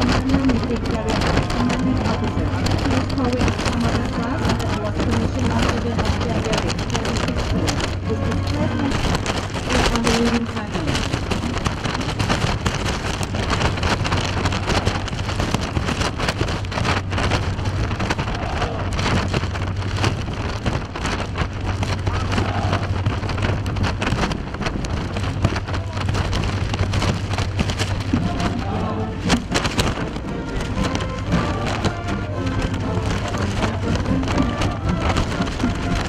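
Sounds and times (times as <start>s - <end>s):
ship engine hum: 0.0s - 36.0s
wind across microphone: 0.0s - 36.0s.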